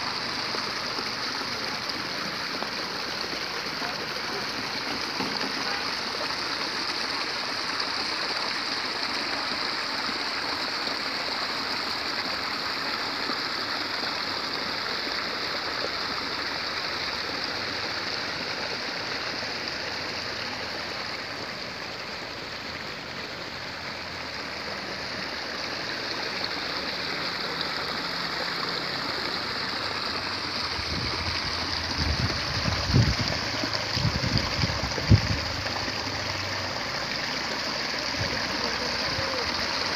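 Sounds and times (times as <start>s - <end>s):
water flowing through channels: 0.0s - 39.9s.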